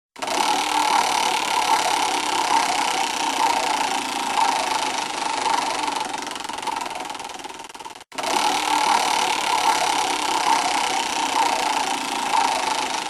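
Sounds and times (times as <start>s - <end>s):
prize wheel clicker ticking: 0.2s - 13.0s.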